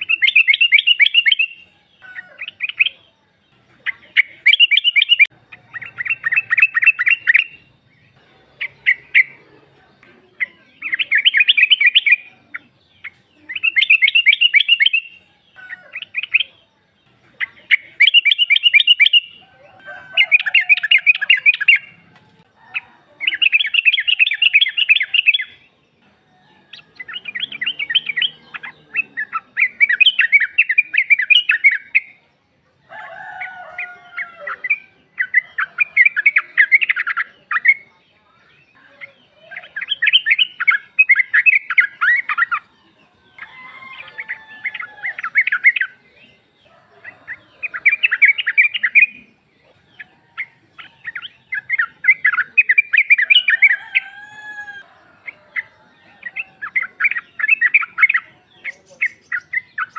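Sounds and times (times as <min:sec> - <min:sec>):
bulbul chattering calls: 0:00.0 - 0:59.9.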